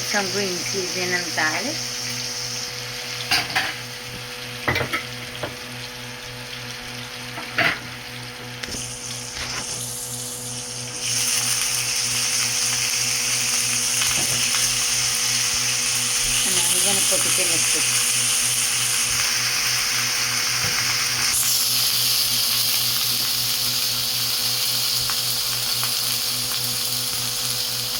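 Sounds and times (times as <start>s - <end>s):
fish sizzling in hot oil: 0.0s - 27.9s.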